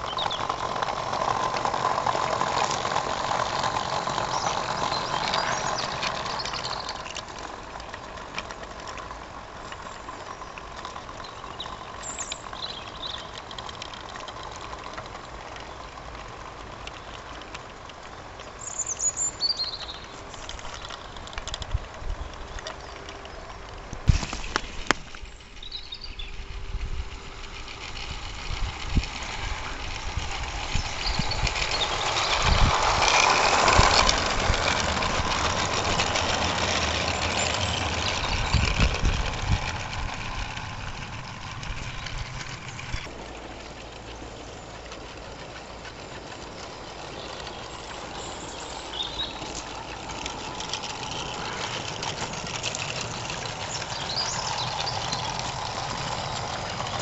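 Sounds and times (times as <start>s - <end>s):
model train wheels rumbling on rails: 0.0s - 57.0s.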